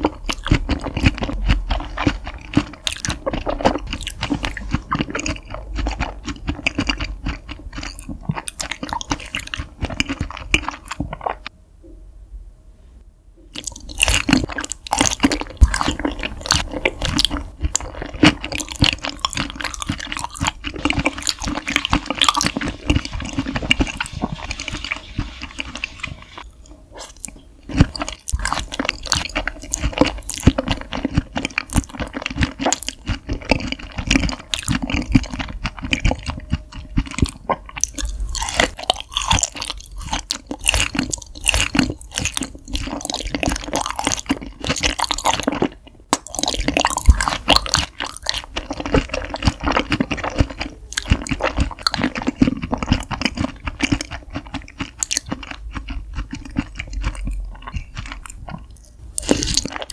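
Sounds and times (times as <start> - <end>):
wet chewing mouth sounds: 0.0 - 11.5, 13.5 - 59.9.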